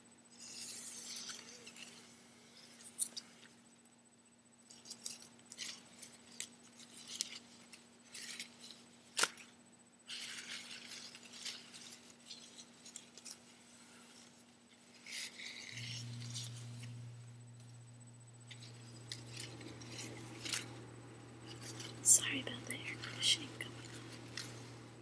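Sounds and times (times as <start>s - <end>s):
air conditioner humming: 0.0s - 25.0s.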